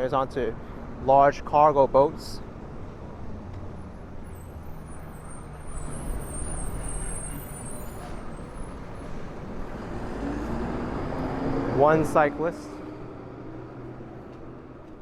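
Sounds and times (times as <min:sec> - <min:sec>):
vehicle engine rumble passing: 0:02.4 - 0:15.0.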